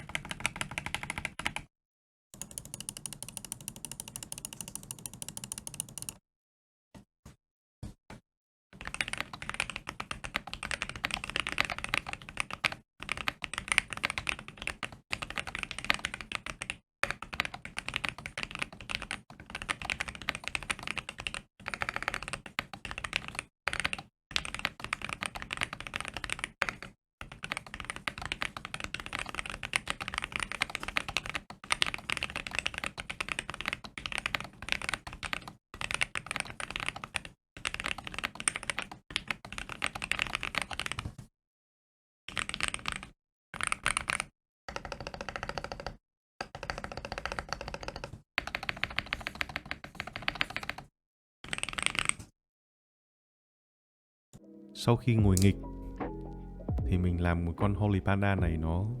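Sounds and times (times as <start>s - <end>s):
typing on a mechanical keyboard: 0.0s - 1.7s, 2.4s - 6.2s, 8.8s - 41.2s, 42.3s - 52.3s.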